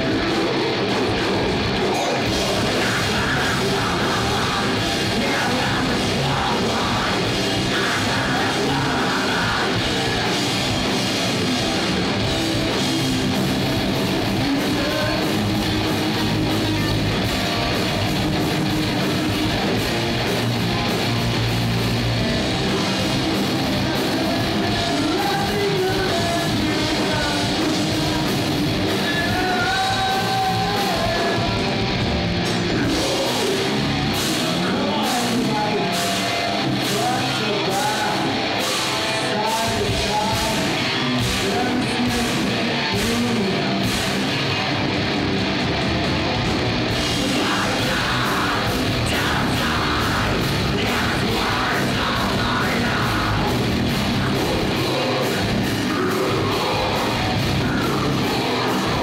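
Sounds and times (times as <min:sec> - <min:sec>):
distorted electric guitars: 0:00.0 - 0:59.0
drum kit: 0:00.0 - 0:59.0
yelled vocals: 0:00.0 - 0:59.0.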